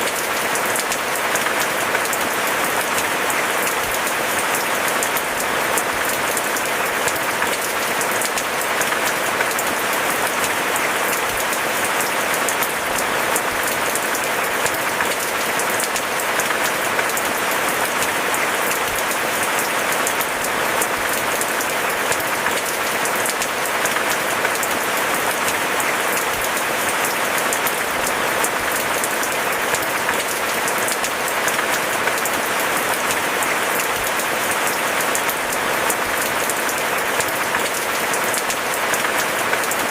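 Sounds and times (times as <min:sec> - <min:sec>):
rain pattering on bamboo: 0:00.0 - 0:39.9.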